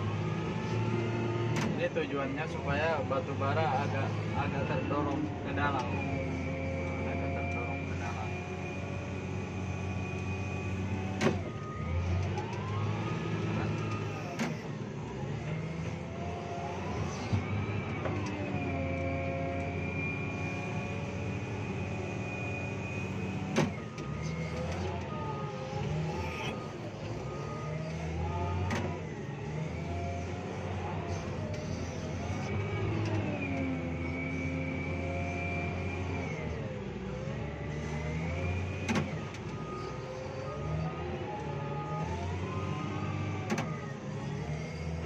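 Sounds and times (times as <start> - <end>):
diesel engine under load: 0.0 - 45.0.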